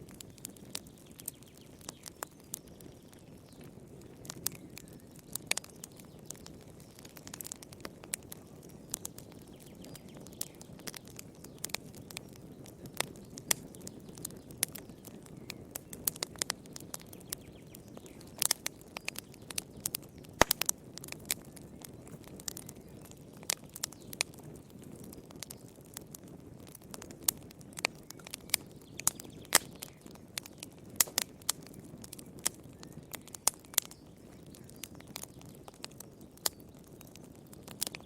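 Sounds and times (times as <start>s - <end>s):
low rumble of flame: 0.0s - 38.0s
wood fire crackling and popping: 0.0s - 38.0s.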